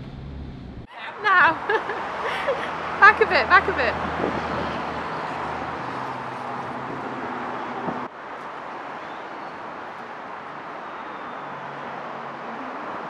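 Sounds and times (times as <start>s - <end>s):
engine hum: 0.0s - 13.0s
road traffic noise: 0.0s - 13.0s.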